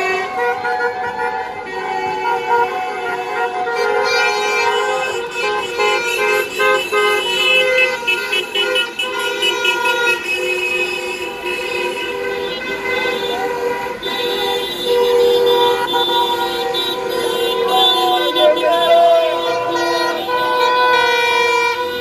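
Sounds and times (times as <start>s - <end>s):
car horns honking: 0.0s - 22.0s.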